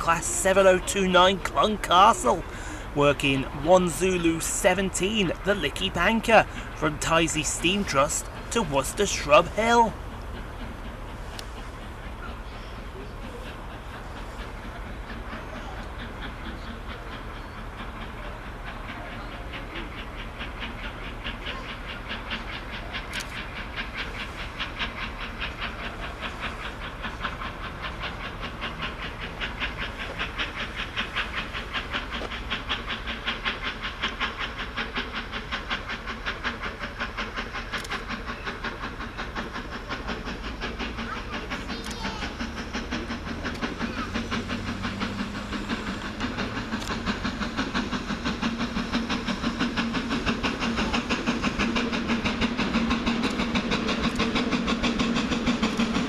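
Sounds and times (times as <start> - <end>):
steam hiss: 0.0 - 56.0
steam locomotive chuffing: 0.0 - 56.0.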